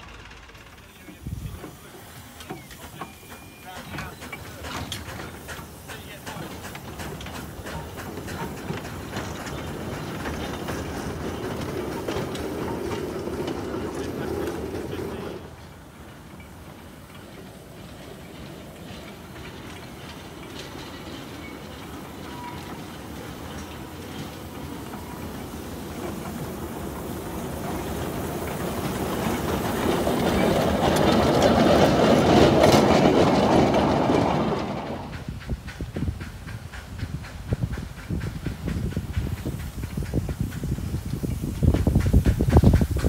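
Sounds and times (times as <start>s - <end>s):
steam locomotive passing: 0.0s - 43.0s
wheels clattering on track: 0.0s - 43.0s.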